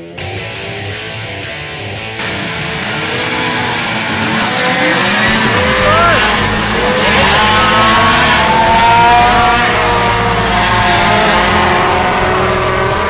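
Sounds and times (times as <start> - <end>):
race truck engines passing: 2.2 - 13.0.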